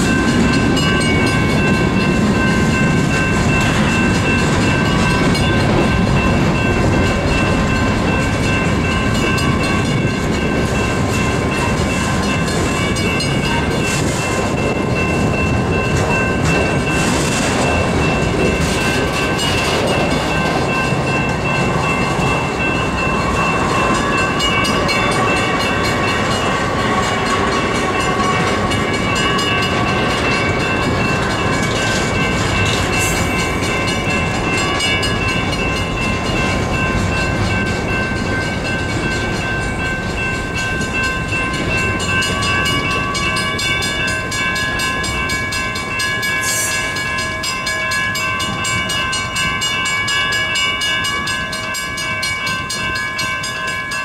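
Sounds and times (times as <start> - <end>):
steady high tones: 0.0 - 54.0
train wheels clattering on rail: 0.0 - 54.0.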